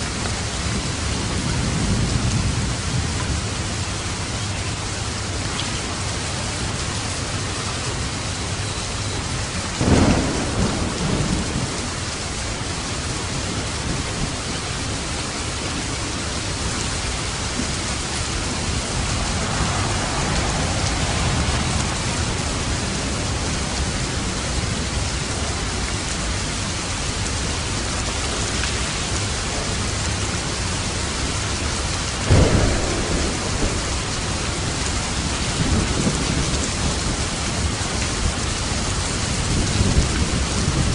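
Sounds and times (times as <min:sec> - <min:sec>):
steady rainfall: 0:00.0 - 0:40.9
thunder rumbles: 0:00.0 - 0:40.9.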